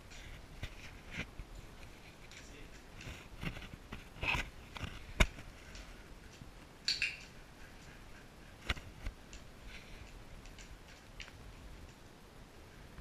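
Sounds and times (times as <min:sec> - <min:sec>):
rustling movement: 0:00.0 - 0:13.0.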